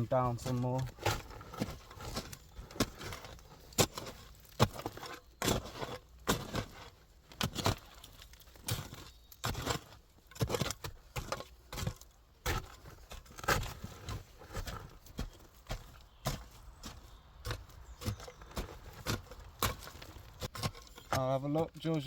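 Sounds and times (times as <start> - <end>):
digging tool scraping earth: 0.0 - 22.0.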